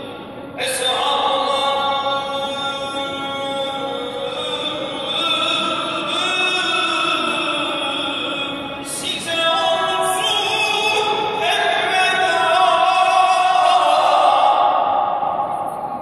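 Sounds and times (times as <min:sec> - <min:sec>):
man chanting through loudspeakers: 0:00.0 - 0:15.8.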